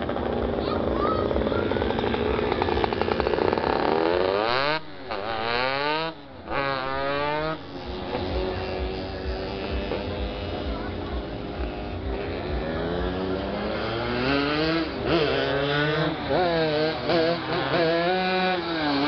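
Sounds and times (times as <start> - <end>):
motorcycle revving through upshifts: 0.0 - 19.0
racing motorcycle engines droning: 0.0 - 19.0.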